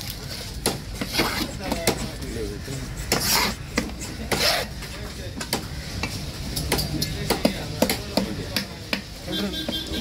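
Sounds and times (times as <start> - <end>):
faint market voices: 0.0 - 10.0.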